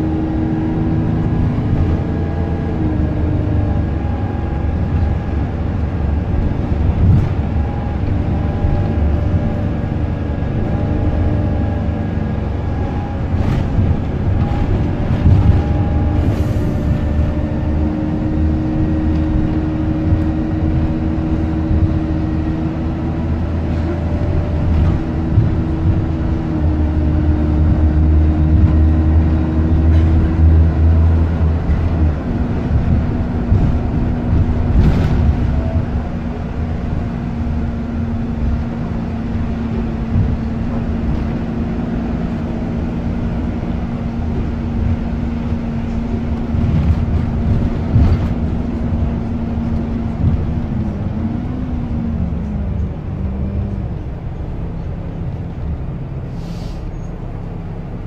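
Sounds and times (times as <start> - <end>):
bus engine hum and whine: 0.0 - 58.0.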